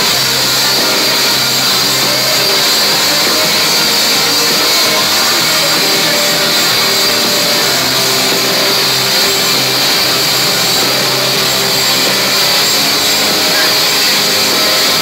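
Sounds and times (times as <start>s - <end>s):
live rock band playing loud: 0.0s - 15.0s.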